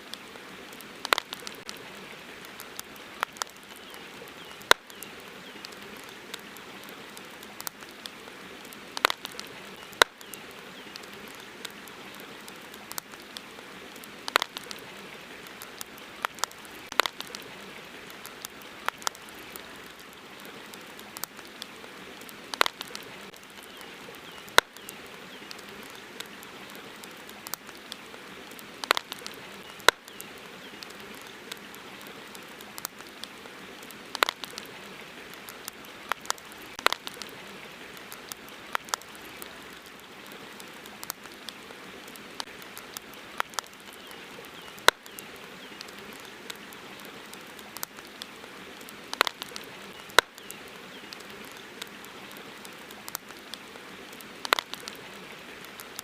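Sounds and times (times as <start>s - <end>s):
campfire crackling and popping: 0.0s - 56.0s
steady hiss: 0.0s - 56.0s.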